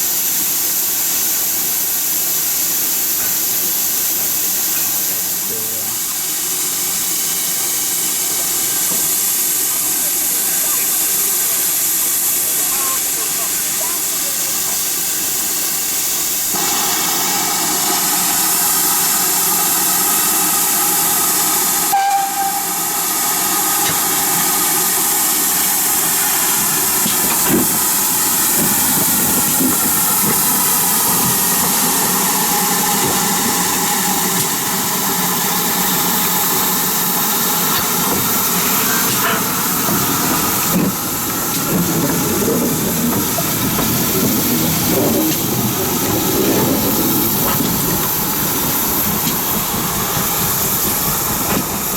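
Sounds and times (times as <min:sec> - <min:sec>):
steam locomotive hissing: 0:00.0 - 0:51.9.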